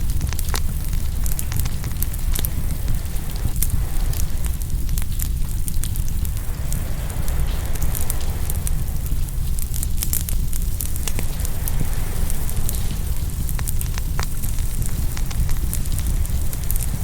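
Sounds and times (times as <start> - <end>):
wood fire crackling and popping: 0.0 - 17.0
ocean waves: 0.9 - 17.0.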